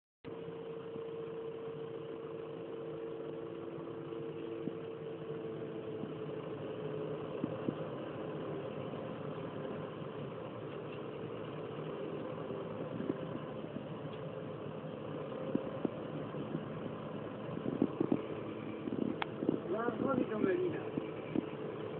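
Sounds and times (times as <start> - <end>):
forage harvester drone: 0.3 - 21.9
steady machine whine: 0.3 - 21.9.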